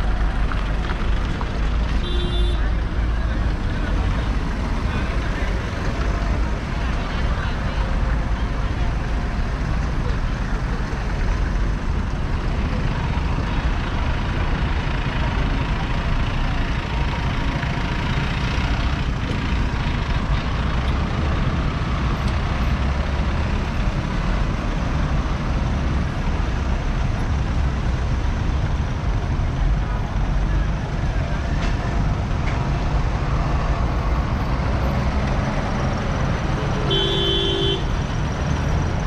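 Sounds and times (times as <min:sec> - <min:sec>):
low traffic rumble: 0:00.0 - 0:39.0
vehicle engines passing: 0:00.0 - 0:39.0.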